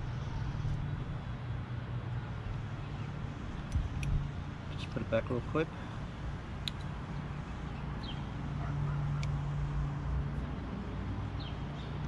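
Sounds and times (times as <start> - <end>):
low vehicle engine hum: 0.0 - 12.0.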